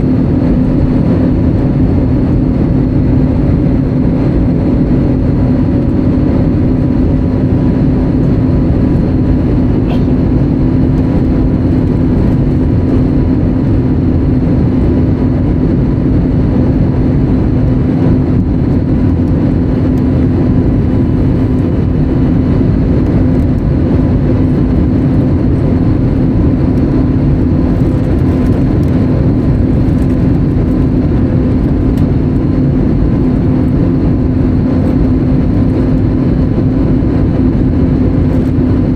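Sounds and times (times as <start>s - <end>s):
airplane cabin engine noise: 0.0s - 38.9s
steady hum: 0.0s - 38.9s.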